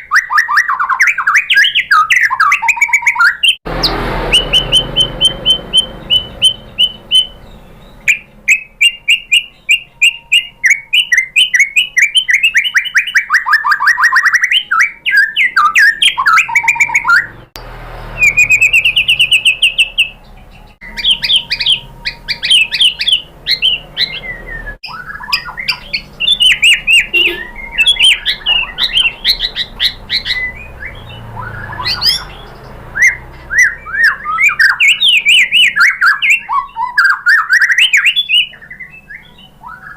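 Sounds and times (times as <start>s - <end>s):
bird singing trills and whistles: 0.0s - 17.5s, 18.2s - 39.9s.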